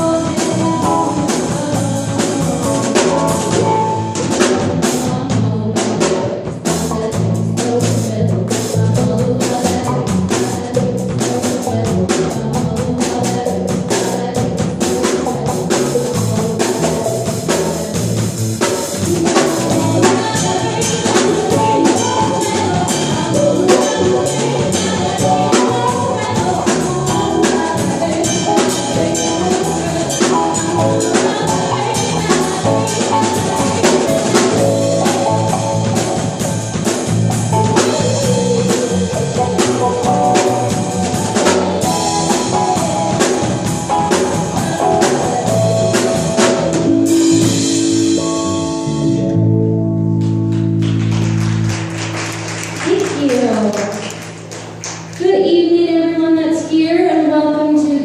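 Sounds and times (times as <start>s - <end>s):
drum kit beat: 0.0s - 49.3s, 50.2s - 55.4s
live band playing: 0.0s - 55.6s.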